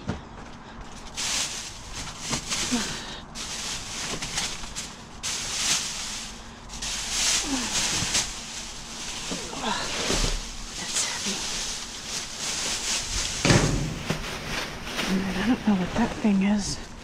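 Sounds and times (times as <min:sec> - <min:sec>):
plastic bags crinkling: 0:00.8 - 0:17.0.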